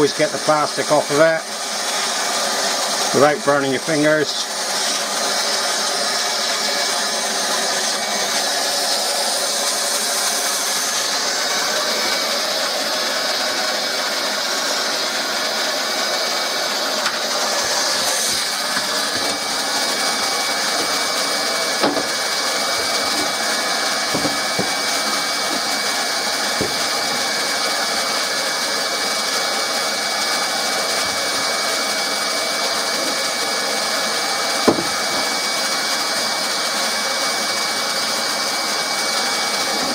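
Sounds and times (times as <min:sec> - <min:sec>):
hot-air plastic welder hissing: 0:00.0 - 0:36.9.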